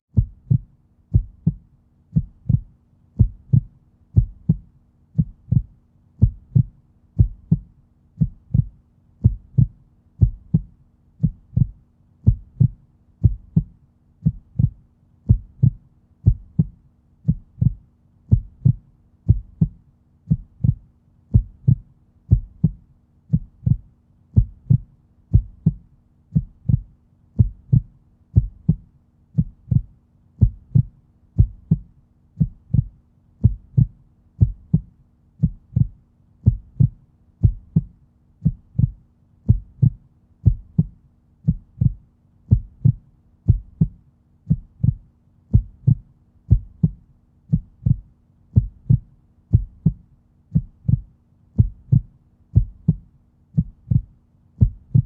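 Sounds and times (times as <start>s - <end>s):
heartbeat thuds: 0.1s - 55.0s.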